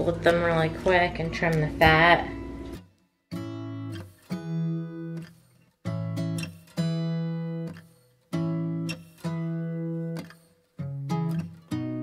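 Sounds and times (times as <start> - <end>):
strummed acoustic guitar chords: 0.0 - 12.0.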